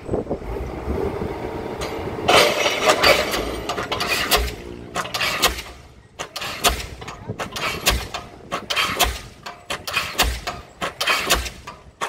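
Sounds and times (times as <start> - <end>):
engine running: 0.0 - 12.0
pile hammer blows: 1.8 - 12.0.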